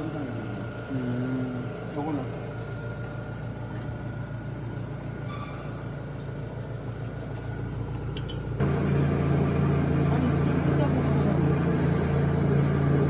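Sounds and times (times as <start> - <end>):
noodle machine motor hum: 0.0 - 13.0.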